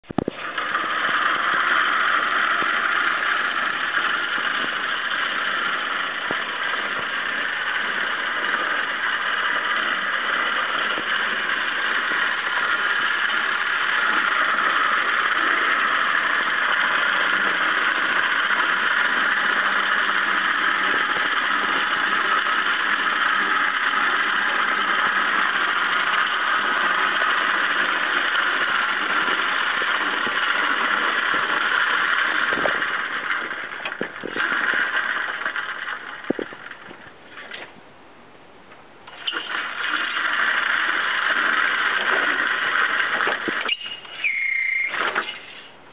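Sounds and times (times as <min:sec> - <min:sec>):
electric motor whirring: 0:00.0 - 0:37.6, 0:39.1 - 0:45.8.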